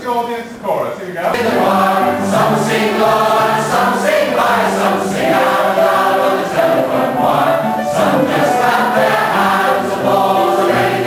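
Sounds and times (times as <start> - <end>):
audience singing in unison: 1.4 - 11.0.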